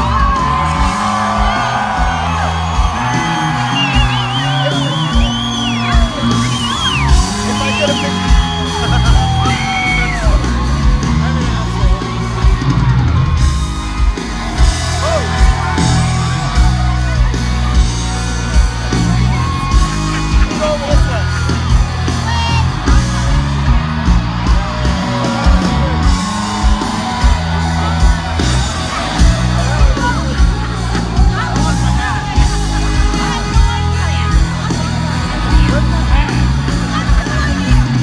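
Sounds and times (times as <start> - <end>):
country band playing live: 0.0 - 38.0
crowd yelling and whooping: 0.0 - 38.0.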